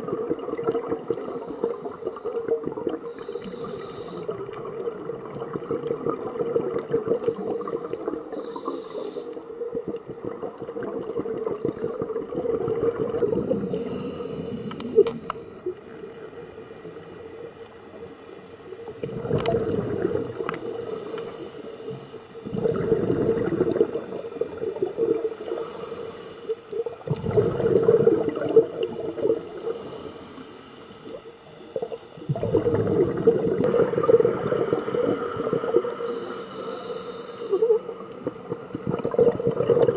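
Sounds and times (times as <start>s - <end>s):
underwater exhaled bubbles gurgling: 0.0s - 39.9s.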